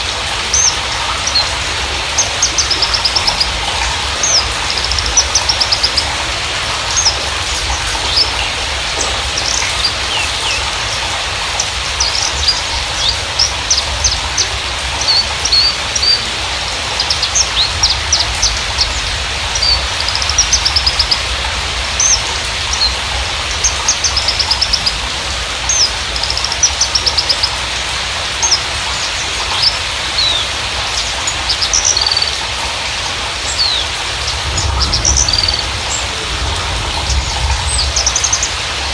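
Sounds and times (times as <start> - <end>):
bird singing high chirps and trills: 0.0 - 27.6, 28.4 - 32.6, 33.5 - 38.6
steady hiss: 0.0 - 38.9.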